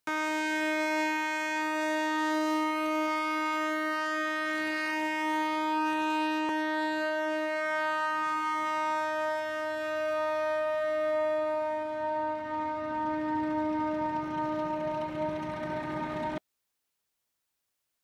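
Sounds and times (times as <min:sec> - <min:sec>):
locomotive horn blast: 0:00.1 - 0:16.4.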